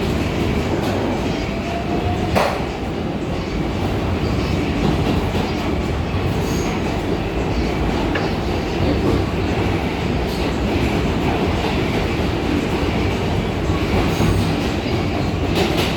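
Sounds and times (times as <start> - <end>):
subway train rumble and rattle: 0.0 - 15.9.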